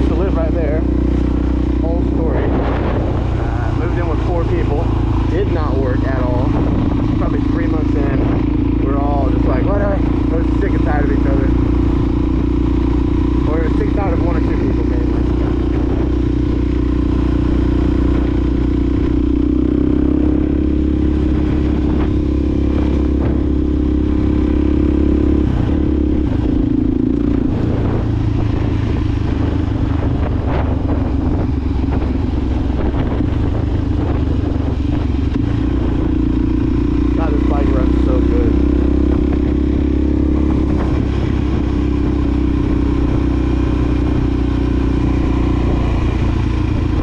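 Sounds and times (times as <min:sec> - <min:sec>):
motorcycle engine cruising: 0:00.0 - 0:47.0.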